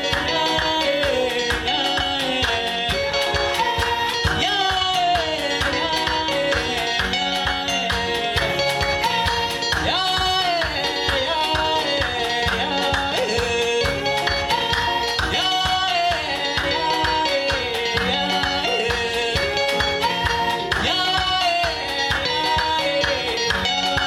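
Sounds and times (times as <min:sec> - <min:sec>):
band music with singing: 0:00.0 - 0:24.0.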